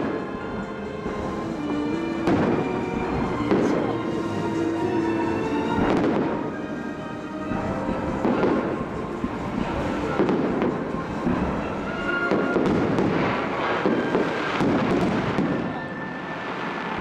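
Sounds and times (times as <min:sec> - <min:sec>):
fireworks bursting with booms: 0:00.0 - 0:06.9, 0:07.5 - 0:17.0
faint background music: 0:00.0 - 0:17.0.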